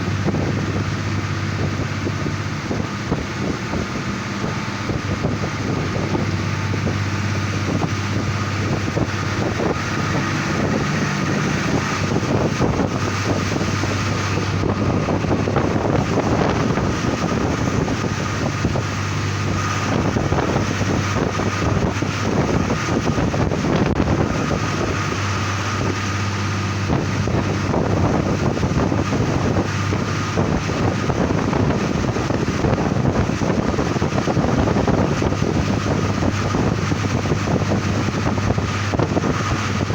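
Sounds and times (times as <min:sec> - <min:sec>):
diesel railcar engine drone: 0:00.0 - 0:39.9
wheels rumbling and clattering: 0:00.0 - 0:39.9
wind buffeting microphone: 0:00.0 - 0:39.9.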